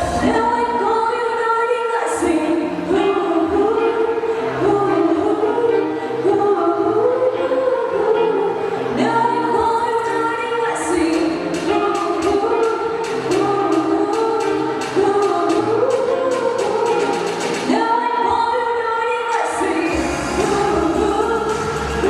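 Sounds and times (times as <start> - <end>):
music with singing: 0.0 - 22.0.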